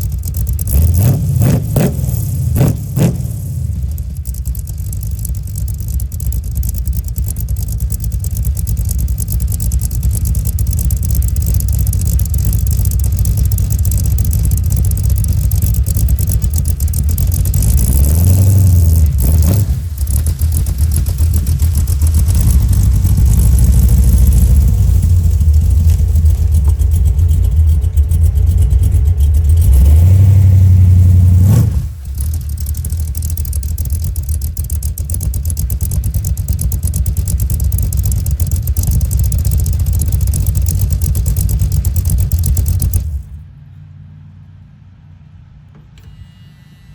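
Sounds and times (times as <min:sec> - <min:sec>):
car engine revving: 0:00.0 - 0:43.4.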